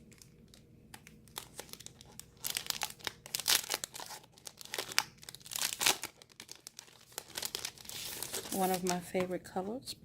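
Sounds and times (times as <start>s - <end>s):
packaging crinkling and tearing: 0.0s - 9.0s.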